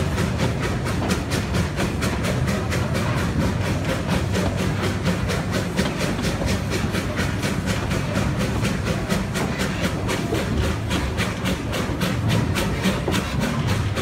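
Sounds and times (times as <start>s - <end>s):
carriage rumbling on rails: 0.0s - 14.0s
steam locomotive chuffing: 0.0s - 14.0s.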